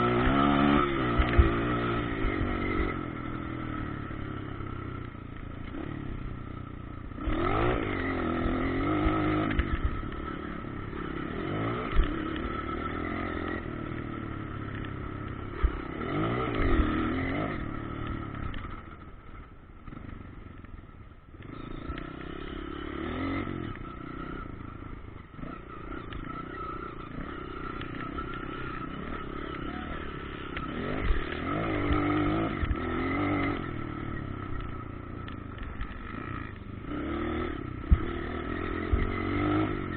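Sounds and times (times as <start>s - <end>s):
motocross bike engines revving: 0.0s - 20.7s, 21.4s - 39.9s.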